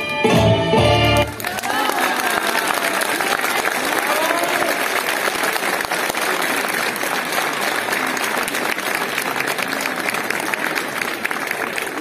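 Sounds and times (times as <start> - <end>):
crowd applauding: 1.2 - 12.0.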